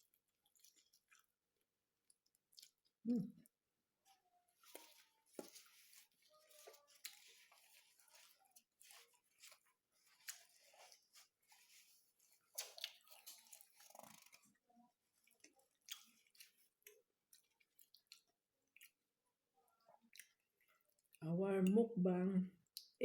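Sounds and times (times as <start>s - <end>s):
faint wet chewing: 0.0s - 21.2s, 22.6s - 23.0s.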